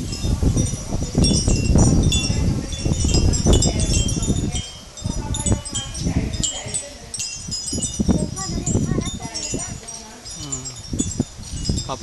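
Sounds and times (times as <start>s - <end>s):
wind buffeting the microphone: 0.0s - 12.0s
wind chimes tinkling: 0.0s - 12.0s.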